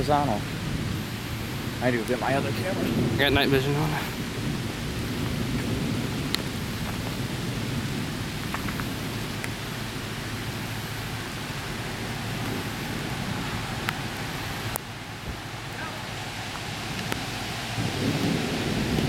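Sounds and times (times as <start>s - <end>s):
rain hissing: 0.0s - 19.0s
thunder rumbling: 0.0s - 19.0s.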